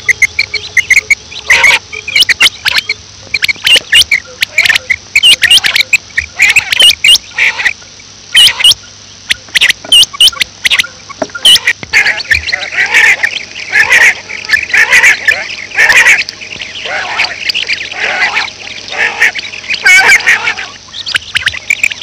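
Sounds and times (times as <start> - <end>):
quail calling: 0.0 - 22.0.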